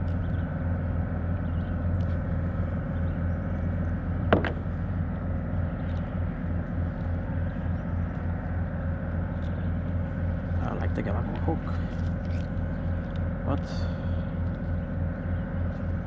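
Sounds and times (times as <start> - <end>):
faint steady tones: 0.0 - 16.0
low motor hum: 0.0 - 16.0.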